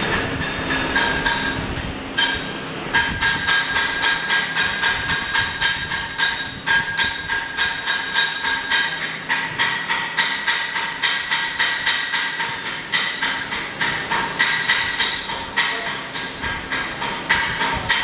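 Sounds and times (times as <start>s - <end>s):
hammer striking metal: 0.0s - 18.0s.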